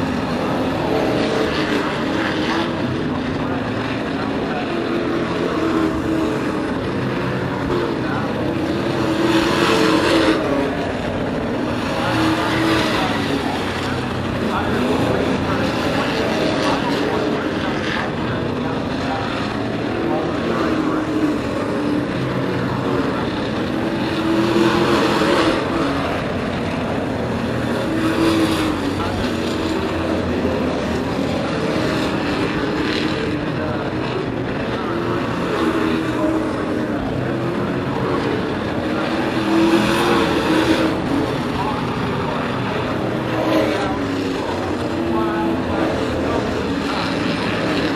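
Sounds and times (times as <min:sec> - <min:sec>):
racing truck engines: 0:00.0 - 0:47.9.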